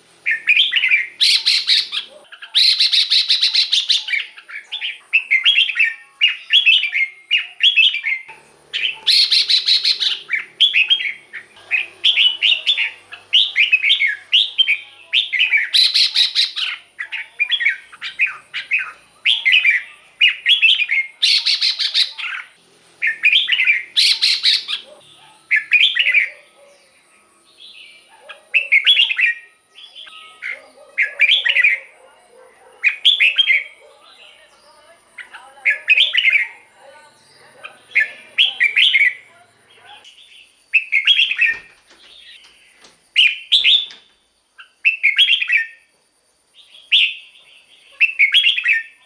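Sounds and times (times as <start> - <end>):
bulbul singing warbled phrases: 0.1 - 44.0, 44.6 - 45.9, 46.6 - 49.0.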